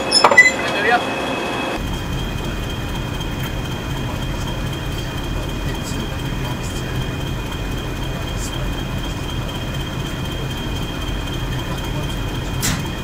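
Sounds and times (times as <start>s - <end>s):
diesel train engine hum: 0.0s - 13.0s
high-pitched whines: 0.0s - 13.0s.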